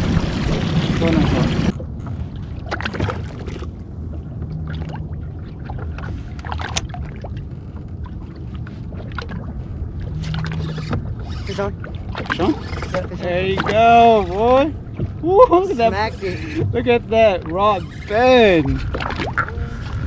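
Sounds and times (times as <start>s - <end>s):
low steady rumble: 0.0s - 20.0s
water lapping against hull: 0.0s - 20.0s.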